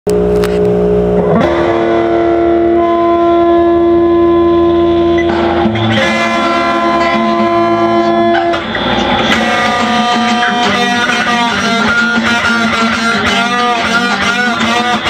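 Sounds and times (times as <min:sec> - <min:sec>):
electric guitar long notes: 0:00.1 - 0:15.0.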